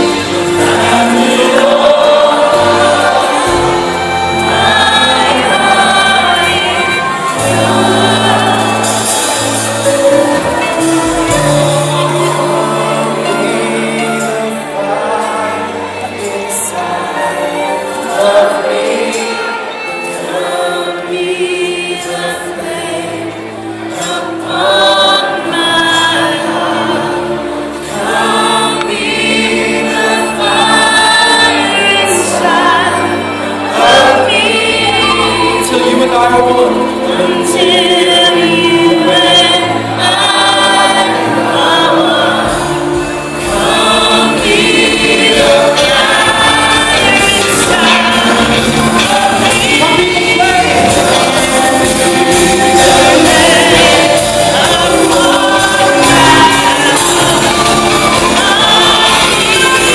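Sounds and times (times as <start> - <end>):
band accompaniment: 0.0 - 59.9
singers singing together: 0.0 - 59.9.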